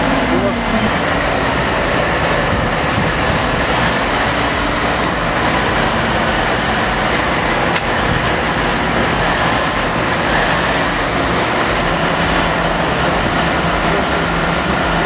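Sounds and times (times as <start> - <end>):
heavy machine running: 0.0 - 15.0.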